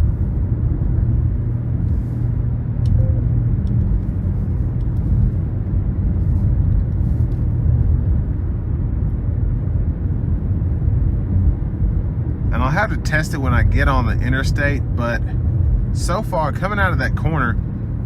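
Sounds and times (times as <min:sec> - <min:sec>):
car engine rumble: 0:00.0 - 0:18.0
road and tyre noise: 0:00.0 - 0:18.0.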